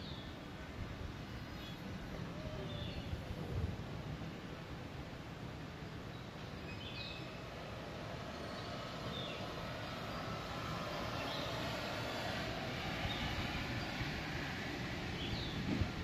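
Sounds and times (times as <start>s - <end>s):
chairlift rumble and hiss: 0.0s - 16.0s.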